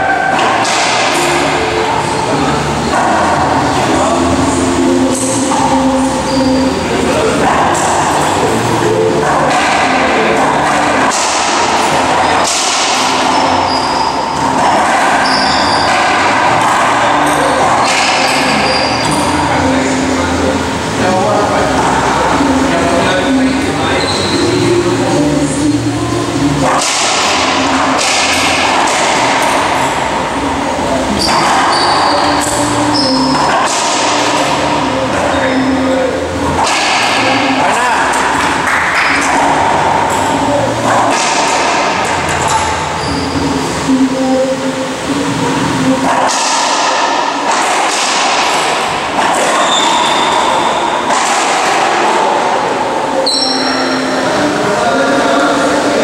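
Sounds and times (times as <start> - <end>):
ball striking racquets and walls: 0.0 - 6.6, 7.4 - 21.8, 26.5 - 43.6, 45.5 - 54.2
loud rushing noise: 0.0 - 56.0.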